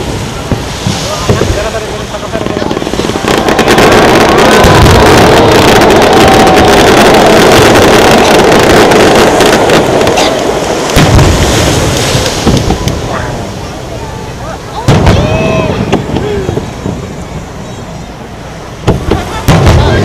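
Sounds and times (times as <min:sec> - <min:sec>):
fireworks sharp bangs: 0:00.0 - 0:14.0, 0:14.8 - 0:20.0
fireworks crackling roar: 0:00.0 - 0:20.0.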